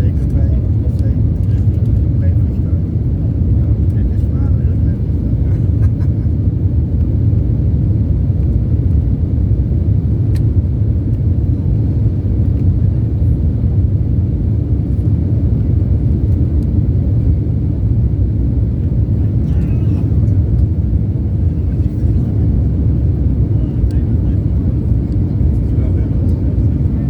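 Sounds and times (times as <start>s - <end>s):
jet engines droning in cabin: 0.0s - 27.0s.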